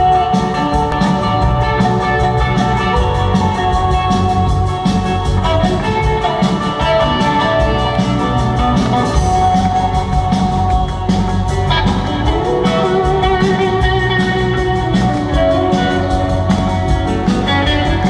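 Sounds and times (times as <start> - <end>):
drum kit: 0.0 - 18.0
electric guitar: 0.0 - 18.0
live rock band playing: 0.0 - 18.0.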